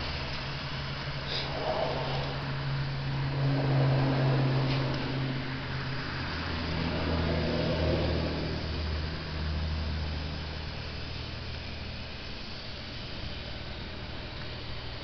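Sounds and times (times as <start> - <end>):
mower engine humming: 0.0 - 15.0.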